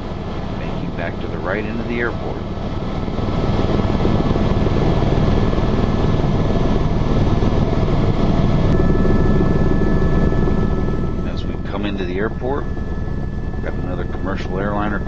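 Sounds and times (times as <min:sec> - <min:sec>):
helicopter engine and rotor roar: 0:00.0 - 0:15.0
high whine: 0:00.0 - 0:15.0.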